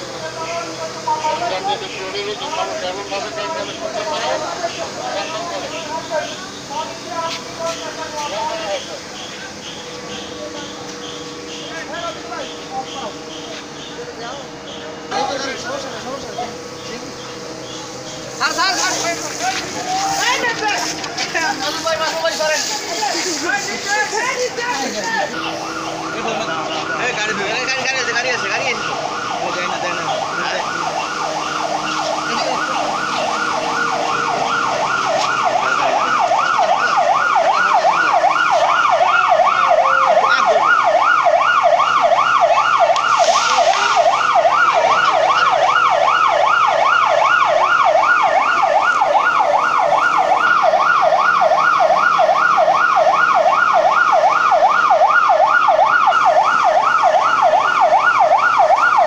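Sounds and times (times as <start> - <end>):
siren yelping: 0.0 - 59.0.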